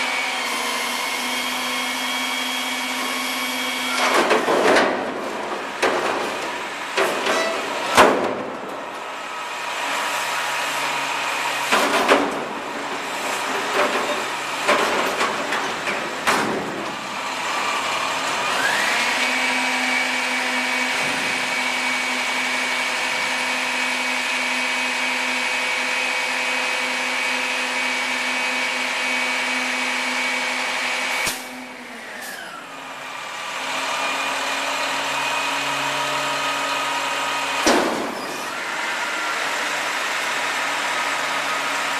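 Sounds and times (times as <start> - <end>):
truck engine and hydraulics whining: 0.0 - 41.9.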